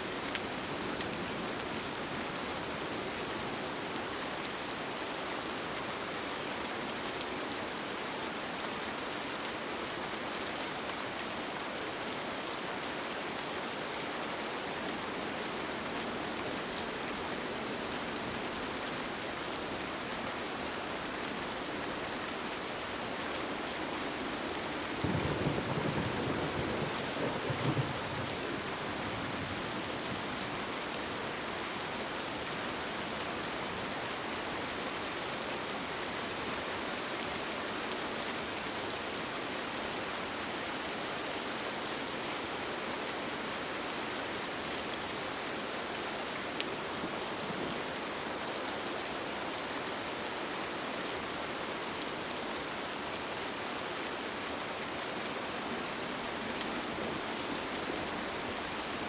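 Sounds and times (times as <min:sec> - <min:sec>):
rain on a tent: 0:00.0 - 0:59.0.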